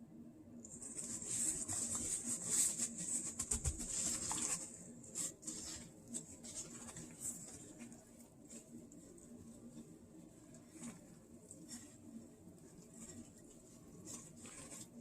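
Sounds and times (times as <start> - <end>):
chicken rustling in powder coating: 0.7 - 15.0.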